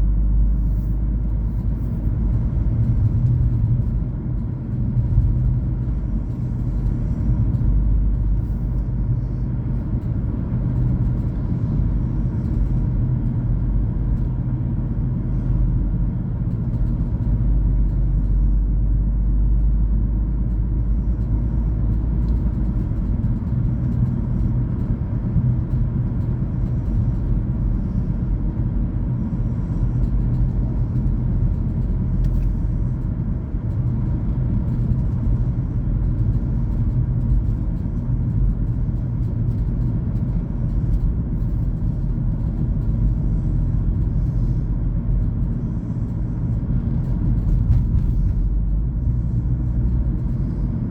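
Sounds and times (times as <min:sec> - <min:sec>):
car road and engine rumble: 0:00.0 - 0:50.9.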